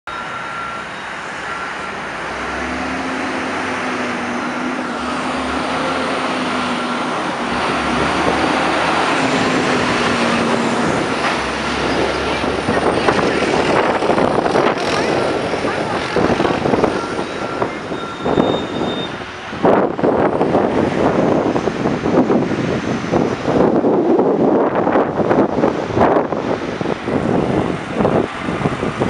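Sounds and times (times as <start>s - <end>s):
street traffic: 0.0s - 29.0s
garbage truck diesel engine: 0.1s - 29.0s.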